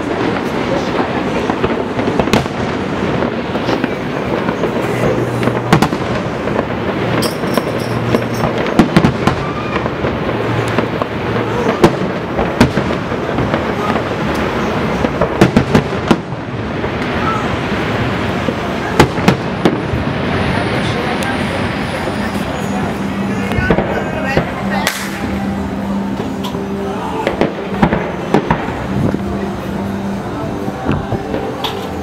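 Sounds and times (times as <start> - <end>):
sharp firework cracks: 0.0 - 30.2
fireworks explosions rumbling: 0.0 - 32.0.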